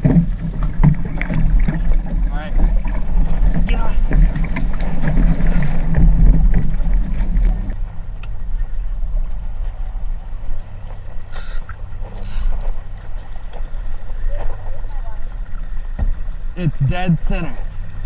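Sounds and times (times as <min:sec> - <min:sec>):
water moving around boat: 0:00.0 - 0:18.0.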